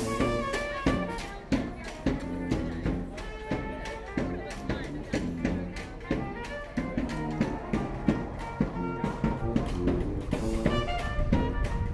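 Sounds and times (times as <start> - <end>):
saxophone: 0.0 - 11.9
snare drum: 0.0 - 11.9
trumpet: 0.0 - 11.9.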